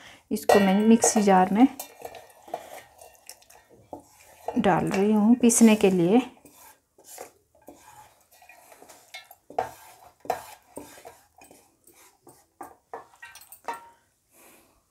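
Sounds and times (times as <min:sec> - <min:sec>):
spatula scraping pan: 0:00.4 - 0:14.7.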